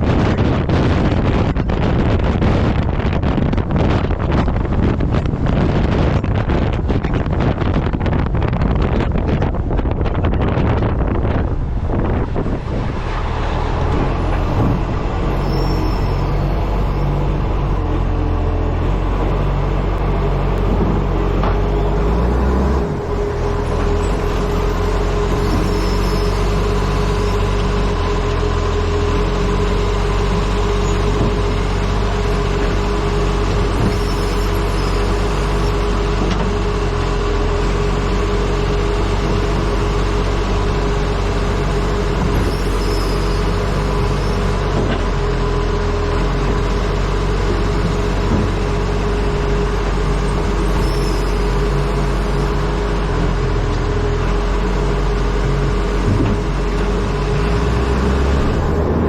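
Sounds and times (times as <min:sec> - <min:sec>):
truck engine running: 0:00.0 - 0:59.0
wind noise on microphone: 0:00.0 - 0:59.0.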